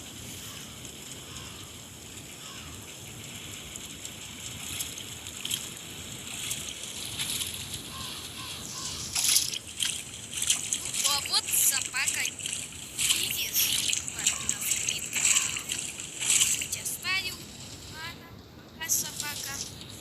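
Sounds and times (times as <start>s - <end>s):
crackling bursts: 3.7s - 20.0s.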